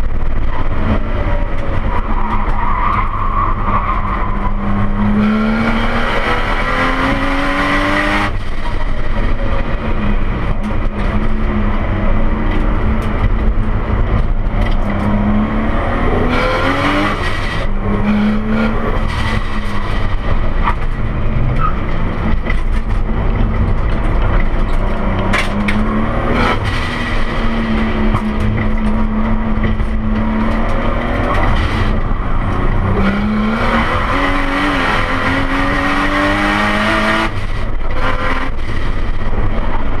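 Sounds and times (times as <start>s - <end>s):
road noise: 0.0s - 40.0s
car engine revving in cabin: 4.4s - 40.0s.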